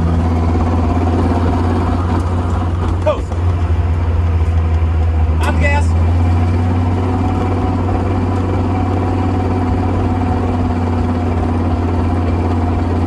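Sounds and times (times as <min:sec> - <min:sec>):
car engine running in cabin: 0:00.0 - 0:13.0
loud low transmission drone: 0:00.0 - 0:13.0.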